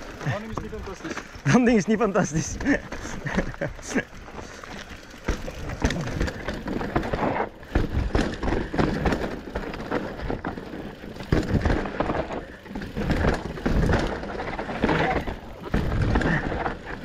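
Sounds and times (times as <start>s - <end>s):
bike knocking and rattling: 0.0s - 17.0s
bike tyre rumble on dirt: 0.0s - 17.0s.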